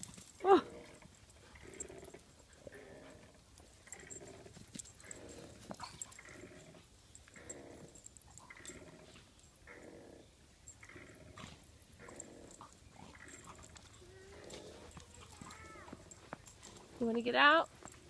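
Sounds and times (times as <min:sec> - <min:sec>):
dogs growling faintly: 0:00.4 - 0:17.1.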